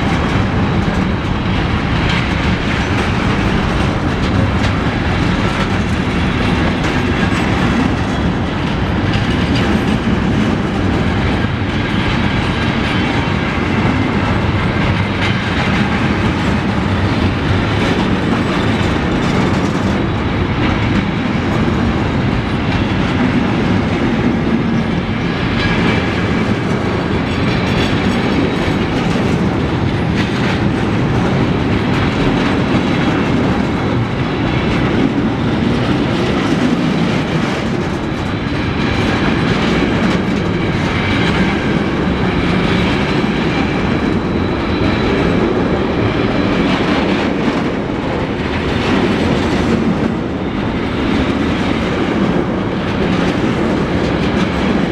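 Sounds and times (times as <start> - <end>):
freight train wheels on rails: 0.0 - 54.9.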